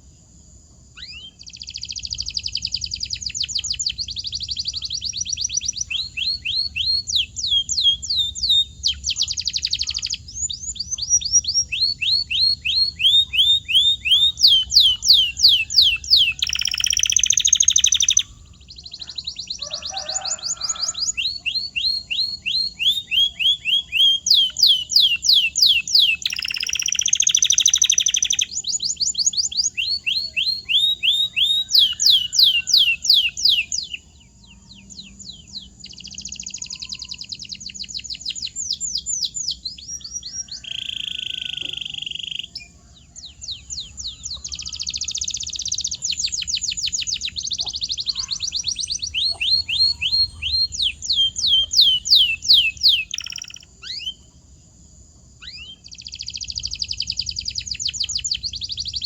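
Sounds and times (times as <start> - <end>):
canary singing: 0.9 - 54.6, 55.4 - 59.0.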